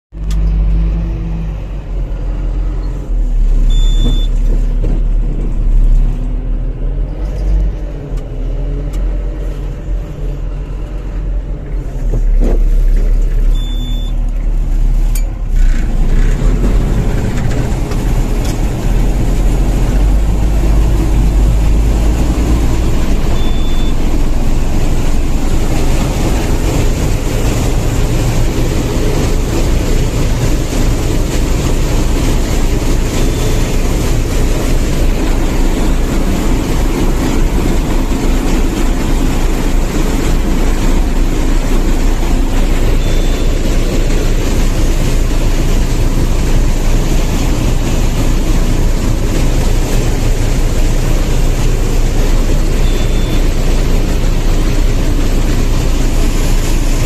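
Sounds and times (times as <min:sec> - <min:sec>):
combine harvester engine drone: 0:00.2 - 0:57.0.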